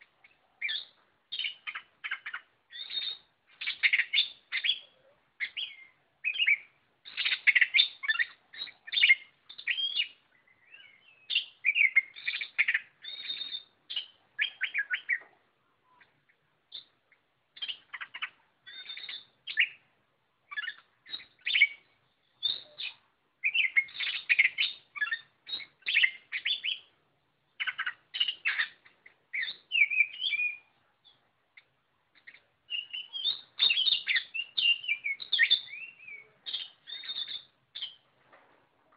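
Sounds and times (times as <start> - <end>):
bird singing whistles: 0.6 - 15.2, 16.7 - 17.0, 17.6 - 19.8, 20.5 - 26.9, 27.6 - 31.2, 32.2 - 38.0.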